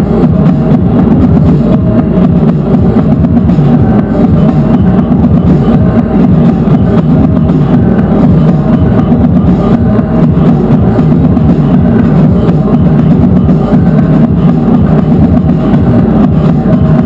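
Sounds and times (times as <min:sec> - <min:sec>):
loud noise music: 0:00.0 - 0:17.0
rapid pounding hits: 0:00.0 - 0:17.0.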